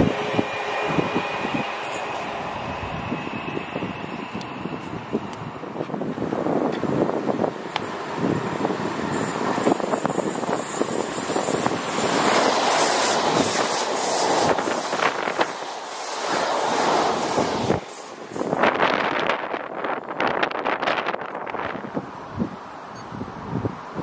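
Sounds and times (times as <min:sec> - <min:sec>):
electric train passing at speed: 0:00.0 - 0:24.0
wheels rushing on rail: 0:00.0 - 0:24.0.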